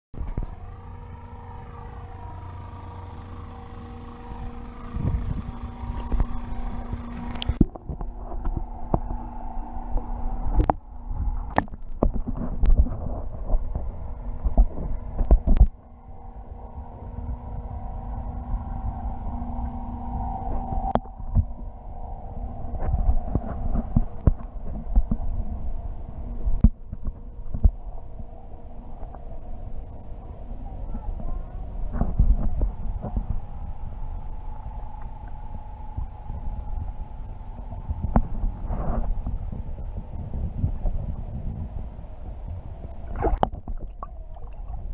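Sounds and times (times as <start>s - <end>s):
muffled underwater rumbling: 0.2s - 44.9s
steady hum: 0.2s - 44.9s.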